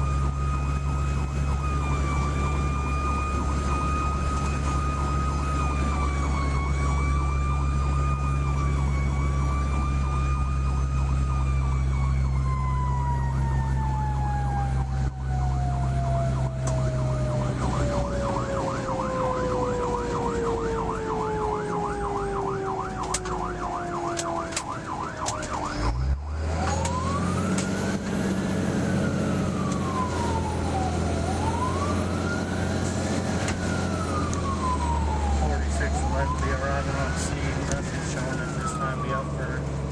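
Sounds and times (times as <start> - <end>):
rapid warbling siren yelp: 0.0 - 27.9, 28.9 - 39.8
fire engine droning: 0.0 - 39.9
fire engine siren wailing: 0.0 - 39.9.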